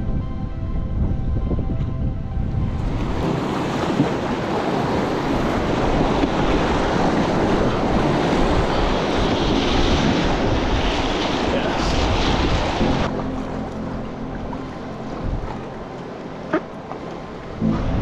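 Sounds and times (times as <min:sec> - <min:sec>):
wind buffeting microphone: 0:00.0 - 0:13.2, 0:14.0 - 0:18.0
whitewater rushing: 0:03.1 - 0:18.0.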